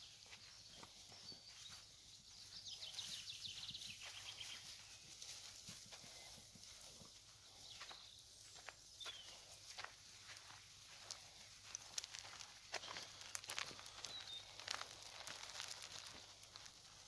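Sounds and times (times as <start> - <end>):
footsteps crunching on leaves: 0.0 - 17.0.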